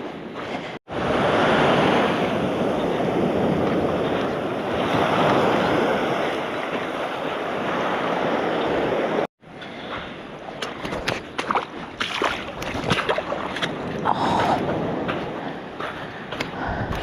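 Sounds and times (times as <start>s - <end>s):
ocean waves breaking on beach: 0.0s - 16.6s.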